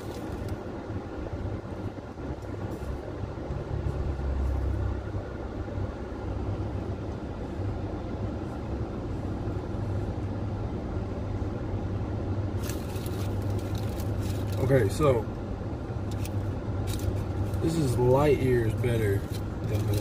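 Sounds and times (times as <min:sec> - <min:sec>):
car cabin rumble and hum: 0:00.0 - 0:20.0.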